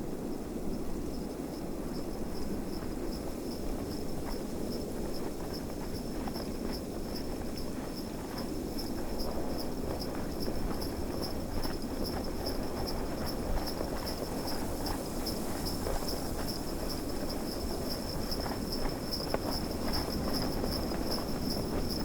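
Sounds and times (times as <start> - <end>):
low wind of snowstorm: 0.0 - 22.0
horse hooves clopping: 2.3 - 22.0.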